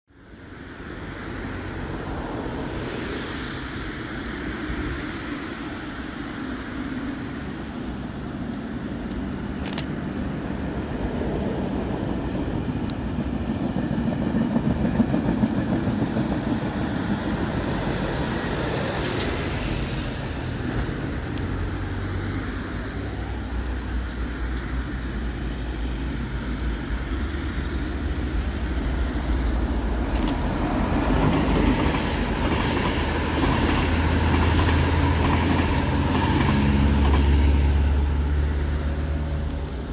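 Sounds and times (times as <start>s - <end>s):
passenger train rumble: 0.1s - 39.9s.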